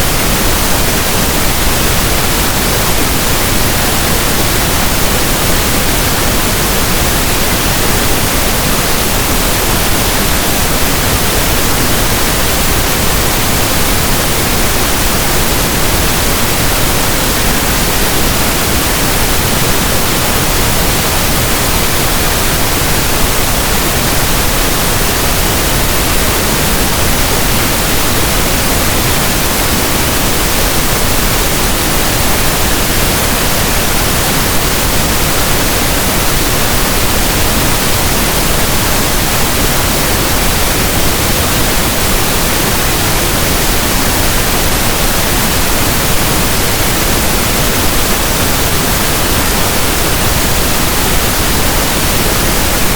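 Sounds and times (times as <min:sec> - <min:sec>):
pink noise static: 0:00.0 - 0:52.9.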